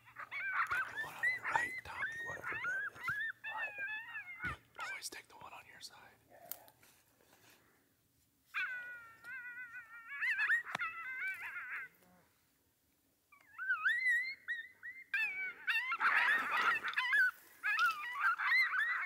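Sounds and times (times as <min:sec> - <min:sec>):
coyotes howling and yipping: 0:00.0 - 0:06.0, 0:08.5 - 0:12.5, 0:13.3 - 0:19.0.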